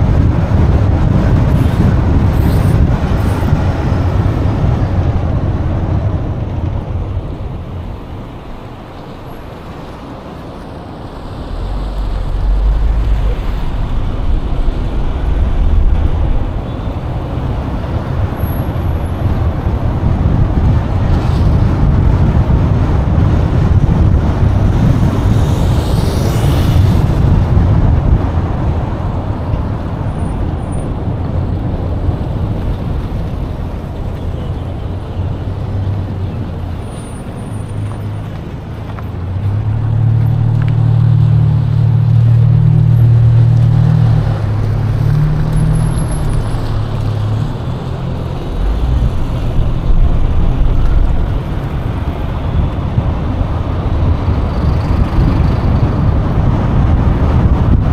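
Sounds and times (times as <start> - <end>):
road vehicle engine and tyres: 0.0 - 57.9.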